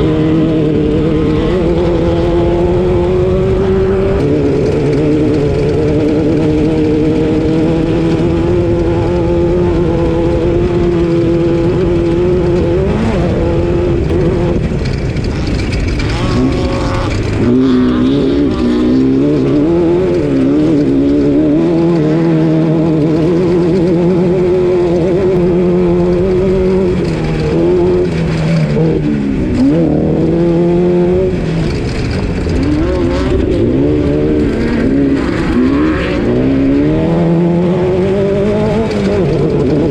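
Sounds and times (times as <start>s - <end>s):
constant rumble: 0.0s - 39.9s
race car engine revving: 0.0s - 39.9s.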